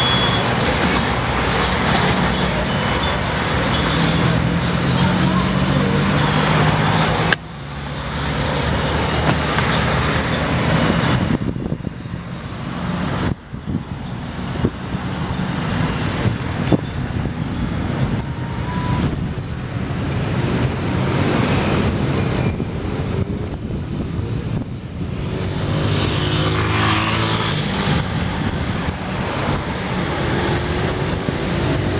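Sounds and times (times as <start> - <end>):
road and traffic noise: 0.0 - 31.9.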